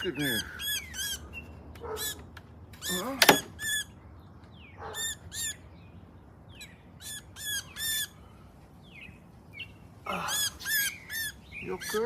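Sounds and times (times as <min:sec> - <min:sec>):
songbird distress squawks: 0:00.0 - 0:04.0, 0:04.6 - 0:12.0.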